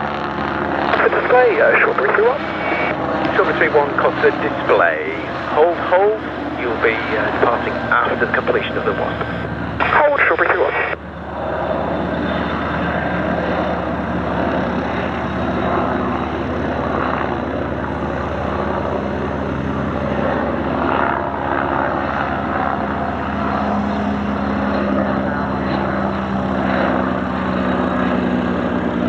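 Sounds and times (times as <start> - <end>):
aircraft engine drone: 0.0 - 29.0.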